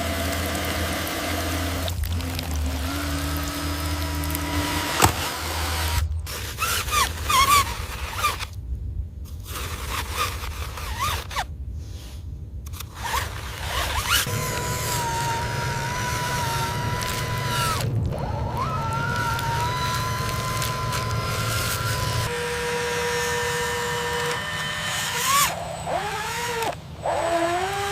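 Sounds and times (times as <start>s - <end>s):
small electric motors whining: 0.0s - 8.5s, 12.8s - 27.9s
scraping: 0.0s - 8.6s, 9.3s - 27.9s
low hum: 0.0s - 27.9s.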